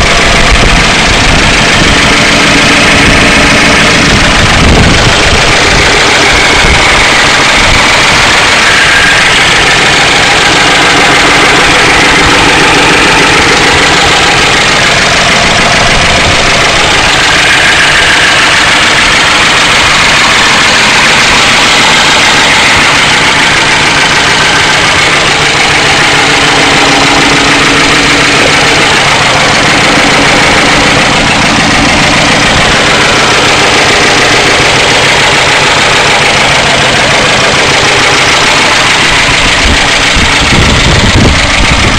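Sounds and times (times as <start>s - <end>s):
engine idling loudly: 0.0s - 41.9s
fast ticking engine clatter: 0.0s - 41.9s.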